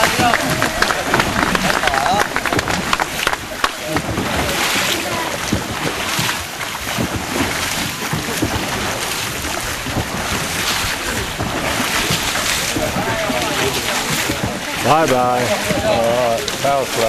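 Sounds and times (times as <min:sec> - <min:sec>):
churning water rushing: 0:00.0 - 0:17.0
oars splashing into water: 0:00.0 - 0:17.0.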